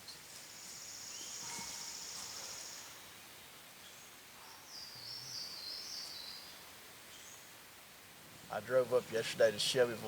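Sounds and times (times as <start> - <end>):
faint outdoor background noise: 0.0 - 10.0
songbird singing: 0.0 - 10.0.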